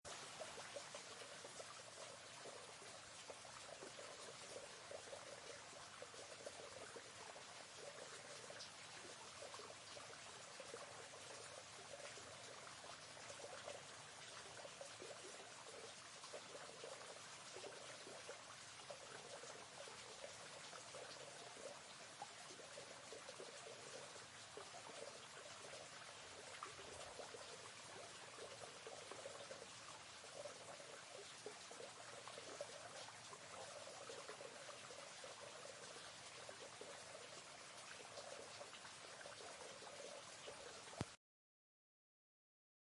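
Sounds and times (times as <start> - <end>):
water gurgling and trickling: 0.0 - 41.2
river flowing: 0.1 - 41.1.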